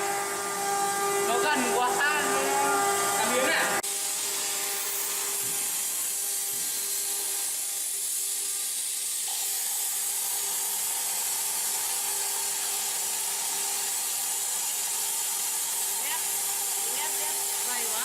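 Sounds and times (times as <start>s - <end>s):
plasma cutter hissing: 0.9s - 18.0s.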